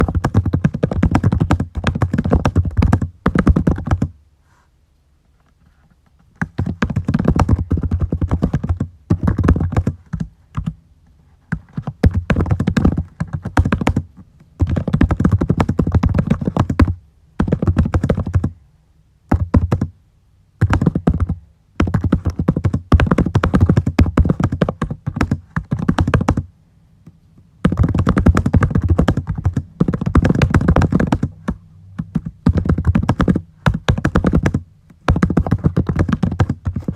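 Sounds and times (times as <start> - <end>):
typing on computer keyboard: 0.0 - 4.1, 6.4 - 10.8, 11.5 - 18.5, 19.3 - 19.9, 20.6 - 26.5, 27.6 - 36.9.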